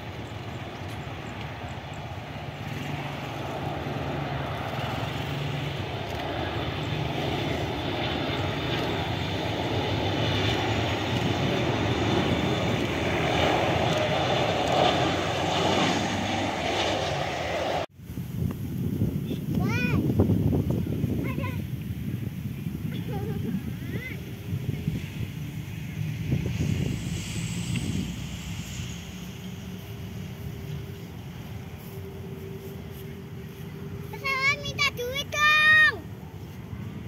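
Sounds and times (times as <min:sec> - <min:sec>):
jet engines rumble and whine: 0:00.0 - 0:37.0.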